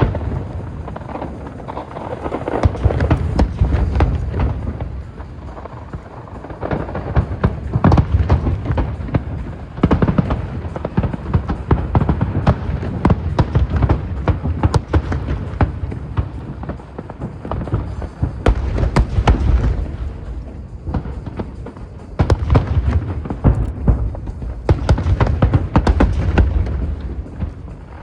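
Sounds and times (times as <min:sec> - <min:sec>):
fireworks bangs and crackles: 0:00.0 - 0:28.0
heavy firework booms: 0:00.0 - 0:28.0.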